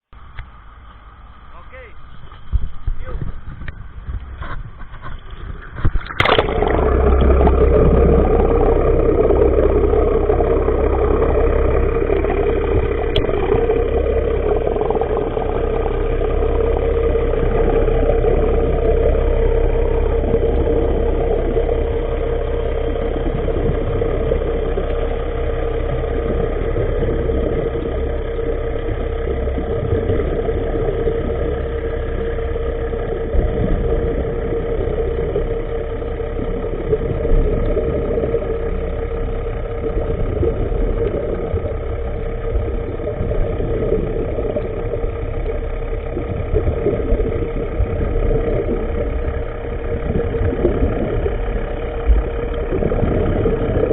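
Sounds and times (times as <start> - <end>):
engine running with low rumble: 0.0 - 53.9.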